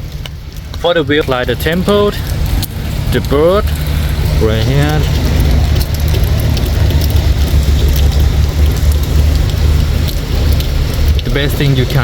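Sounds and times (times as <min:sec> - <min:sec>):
drips ticking: 0:00.0 - 0:12.0
low rumble: 0:00.0 - 0:12.0
rain pattering: 0:00.0 - 0:12.0.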